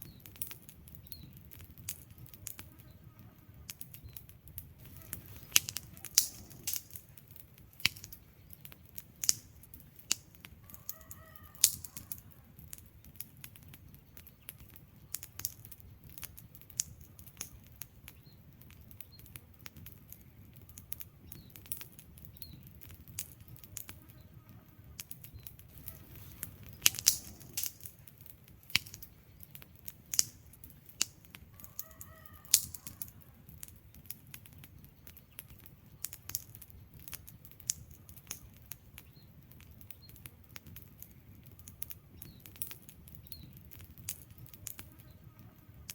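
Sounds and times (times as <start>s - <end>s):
low rush of burning: 0.0s - 44.8s
wood fire crackling and popping: 0.0s - 45.9s.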